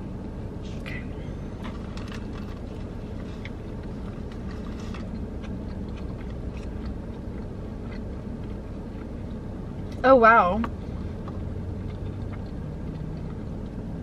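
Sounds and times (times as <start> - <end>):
car interior rumble: 0.0 - 14.0
chewing sandwich: 1.4 - 10.0, 10.9 - 14.0.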